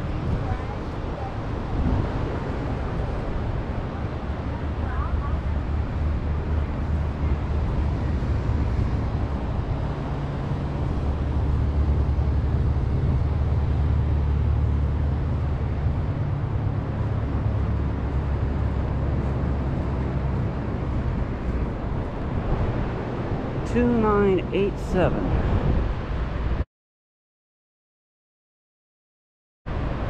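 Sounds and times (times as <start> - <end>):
low engine rumble: 0.0 - 26.6.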